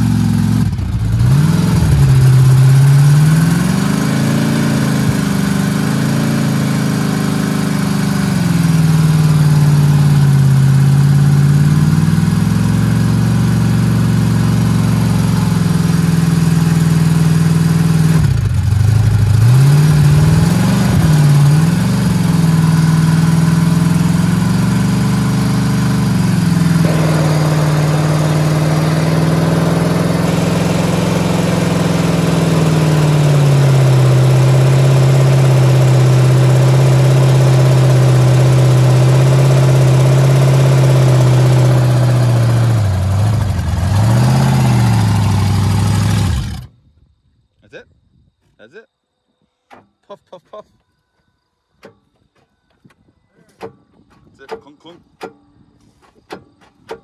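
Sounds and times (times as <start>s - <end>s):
truck engine revving: 0.0s - 46.7s.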